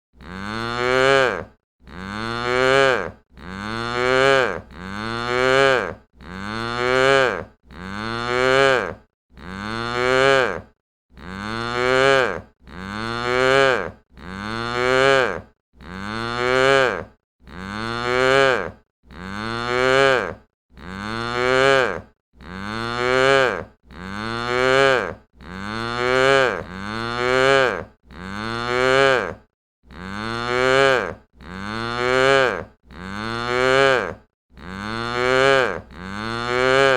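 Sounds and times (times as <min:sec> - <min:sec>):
cow mooing: 0:00.2 - 0:36.9.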